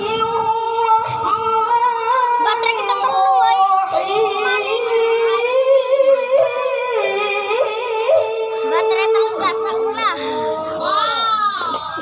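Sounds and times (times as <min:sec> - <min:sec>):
boy chanting melodically into microphone: 0:00.0 - 0:12.0.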